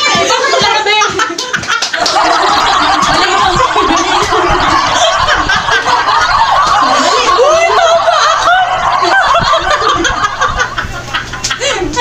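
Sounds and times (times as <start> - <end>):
young women laughing: 0.0 - 12.0.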